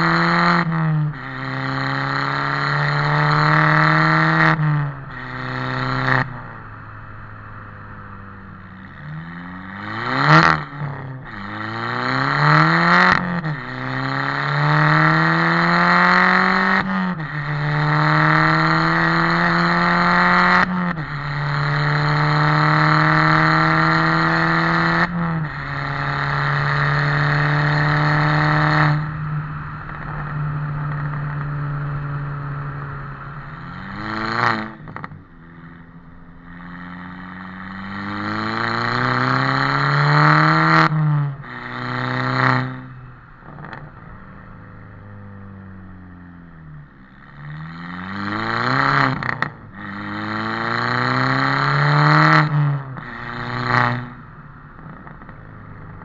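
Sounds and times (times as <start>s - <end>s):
car exhaust accelerating and shifting: 0.0s - 56.0s.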